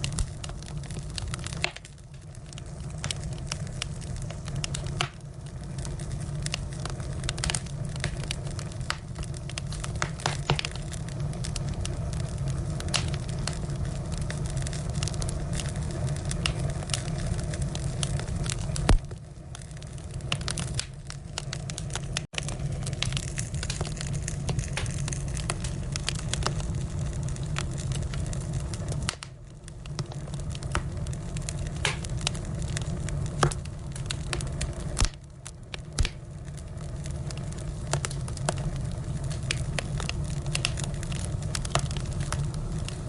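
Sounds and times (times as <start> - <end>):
firewood crackling and popping: 0.0 - 43.0
low rumble of flames: 0.0 - 43.0.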